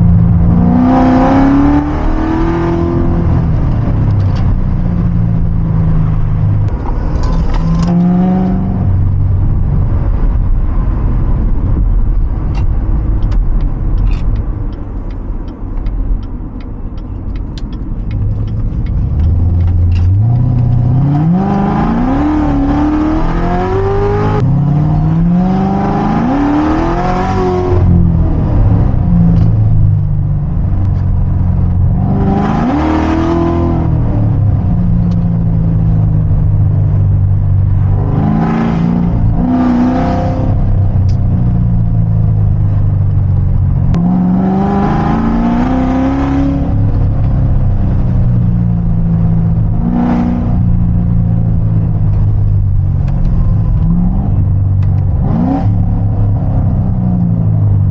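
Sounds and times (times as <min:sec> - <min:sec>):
car engine droning and revving: 0:00.0 - 0:57.9.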